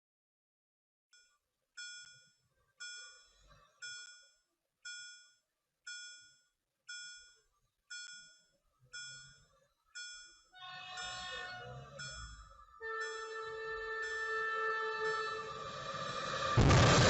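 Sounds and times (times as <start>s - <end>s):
level crossing warning bell: 1.2s - 16.4s.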